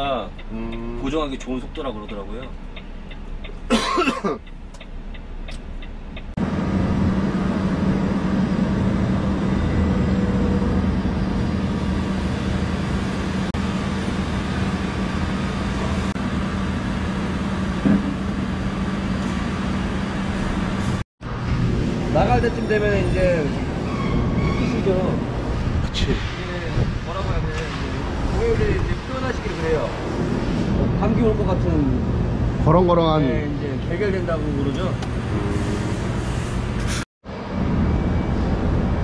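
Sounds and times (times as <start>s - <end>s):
heavy truck hum: 0.0s - 39.0s.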